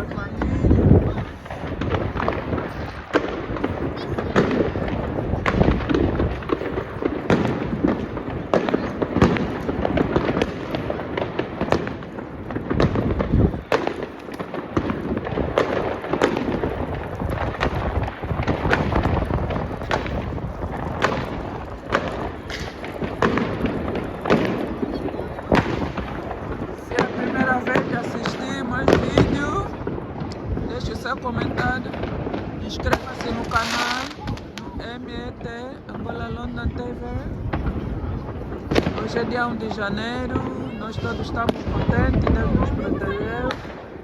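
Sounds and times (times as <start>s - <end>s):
fireworks bangs: 0.0s - 44.0s.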